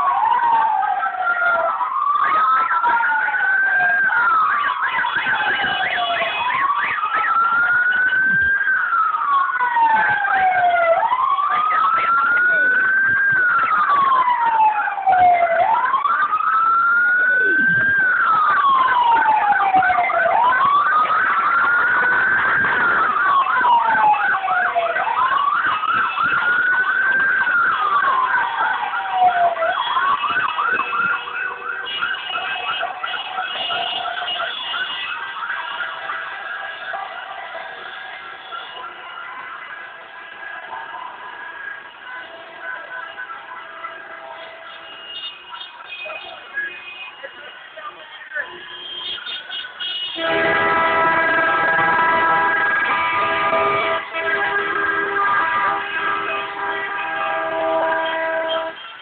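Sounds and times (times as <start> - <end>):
fast sweeping siren: 0.0 - 47.2, 48.3 - 59.0
slow wailing siren: 0.0 - 59.0.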